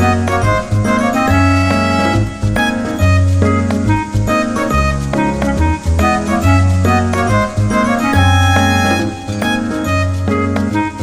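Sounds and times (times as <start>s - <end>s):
background music with bass line: 0.0s - 11.0s
plucked melody notes: 0.0s - 11.0s.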